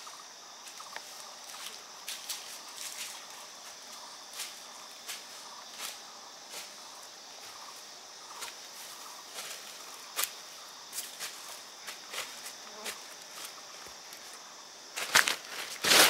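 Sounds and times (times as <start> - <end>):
high insect drone: 0.0 - 16.0
footsteps crunching on dry leaves: 0.6 - 16.0.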